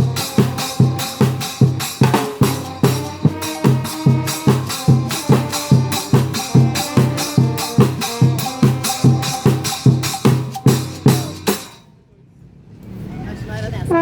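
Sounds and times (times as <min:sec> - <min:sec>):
bass drum and percussion beat: 0:00.0 - 0:11.8
trombone band playing: 0:00.0 - 0:11.8.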